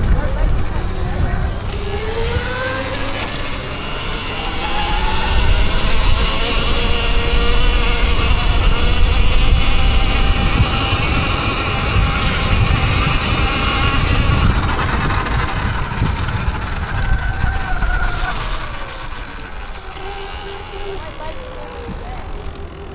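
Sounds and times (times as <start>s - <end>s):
electric motorbike motor whining: 0.0s - 22.9s
wind rumble on microphone: 0.0s - 22.9s.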